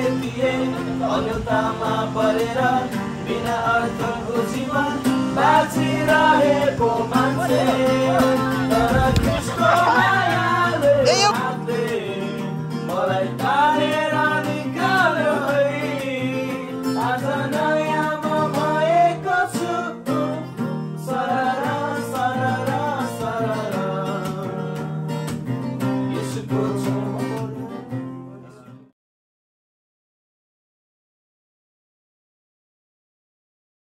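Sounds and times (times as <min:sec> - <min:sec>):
men singing together: 0:00.0 - 0:28.2
strummed acoustic guitar: 0:00.0 - 0:28.9.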